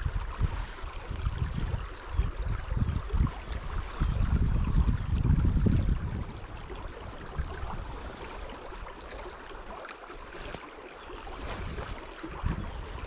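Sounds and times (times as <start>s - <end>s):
wind buffeting microphone: 0.0s - 9.3s, 11.2s - 13.0s.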